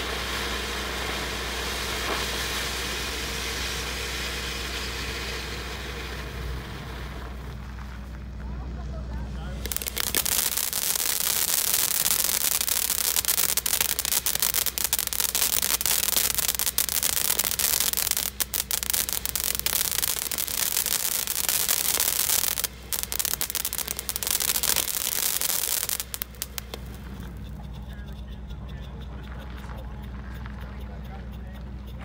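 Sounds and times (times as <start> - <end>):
firework fountain hissing: 0.0 - 8.3, 9.2 - 28.1.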